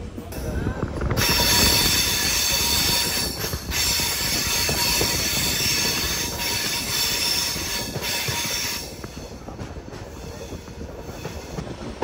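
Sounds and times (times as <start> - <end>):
train coach rumble and rattle: 0.0 - 12.0
train wheels squealing: 1.2 - 9.4, 10.0 - 11.8.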